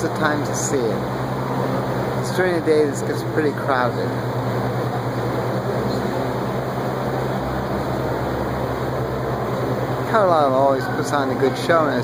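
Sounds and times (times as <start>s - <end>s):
low hum: 0.0s - 11.5s.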